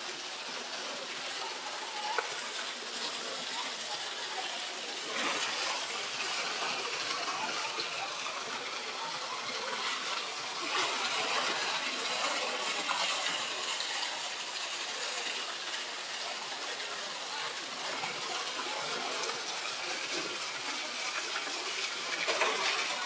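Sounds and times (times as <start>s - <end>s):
waterfall gushing into pool: 0.0s - 23.0s.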